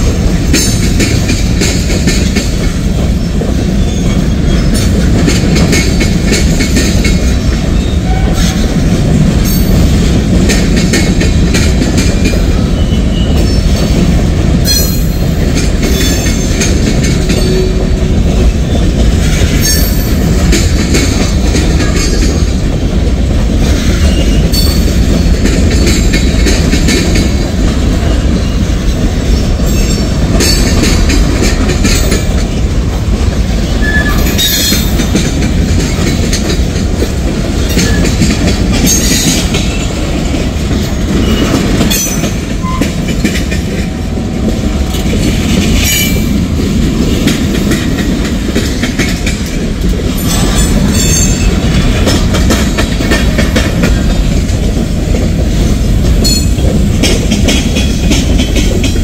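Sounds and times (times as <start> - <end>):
train wheels rumbling on rails: 0.0 - 59.0
wheels clacking over rail joints: 0.0 - 59.0.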